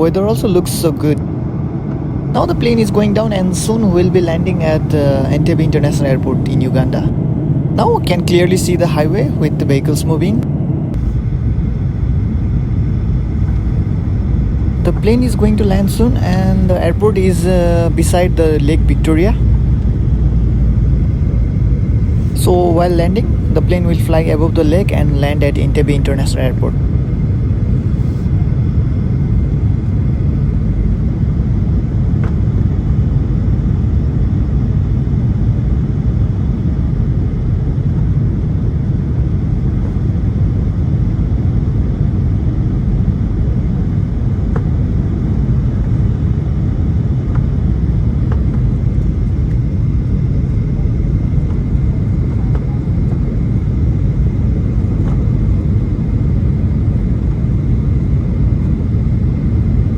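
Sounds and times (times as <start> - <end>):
aircraft cabin engine rumble: 0.0 - 59.9
faint high whine: 0.0 - 59.9.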